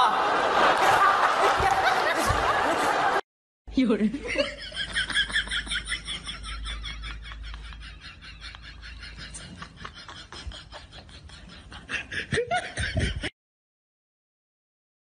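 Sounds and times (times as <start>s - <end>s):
people laughing: 0.0s - 3.2s, 4.1s - 13.3s.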